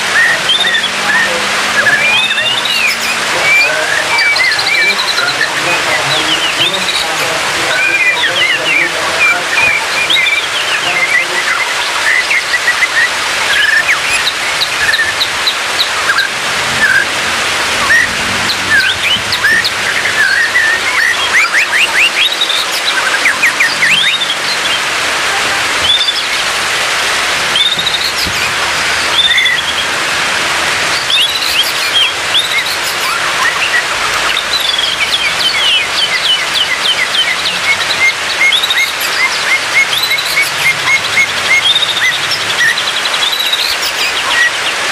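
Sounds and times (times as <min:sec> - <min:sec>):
bird song whistles and trills: 0:00.0 - 0:24.9, 0:25.8 - 0:26.6, 0:27.4 - 0:30.0, 0:30.9 - 0:44.9
steady rushing noise: 0:00.0 - 0:44.9.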